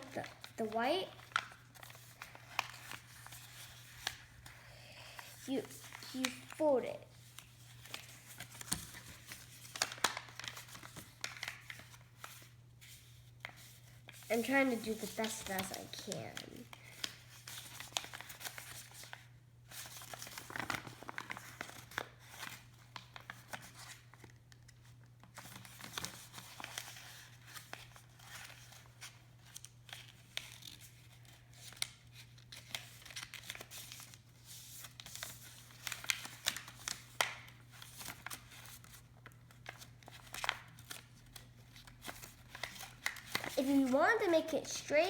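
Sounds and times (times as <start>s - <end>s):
paper folding and rustling: 0.0s - 45.0s.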